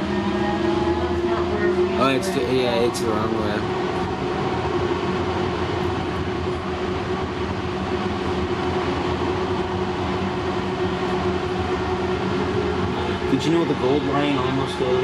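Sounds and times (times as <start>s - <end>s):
rumble of wheels on rail: 0.0s - 15.0s
steady hum: 0.0s - 15.0s.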